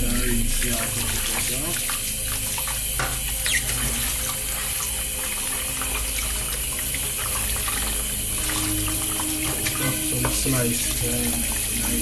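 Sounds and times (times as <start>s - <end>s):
tap water running into basin: 0.0s - 12.0s
hands splashing water: 0.6s - 12.0s.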